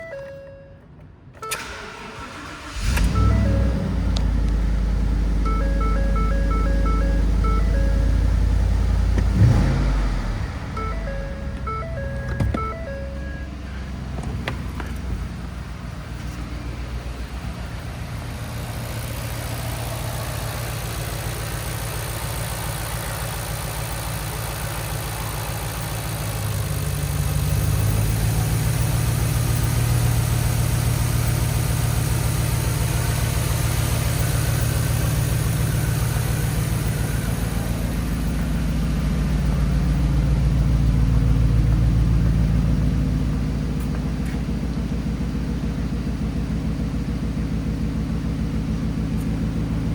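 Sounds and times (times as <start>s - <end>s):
truck engine revving: 1.6s - 43.2s.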